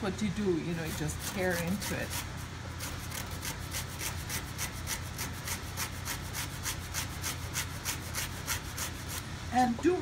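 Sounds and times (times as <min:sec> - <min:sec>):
root grated on metal grater: 0:00.6 - 0:09.3.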